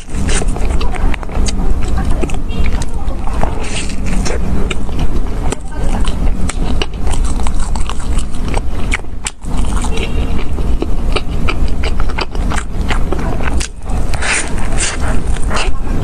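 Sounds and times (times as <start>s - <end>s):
crunchy chewing: 0.0s - 16.0s
low rumble: 0.0s - 16.0s.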